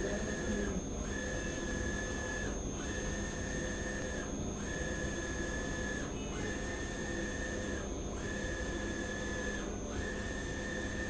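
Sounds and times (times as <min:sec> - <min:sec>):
printer carriage whine: 0:00.0 - 0:11.0.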